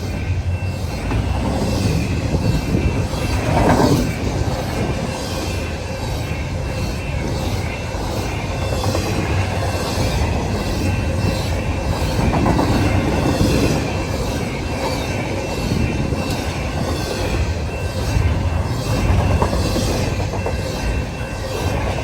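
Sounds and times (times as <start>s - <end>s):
freight train rumble: 0.0s - 22.0s
wheels clattering on rails: 0.0s - 22.0s.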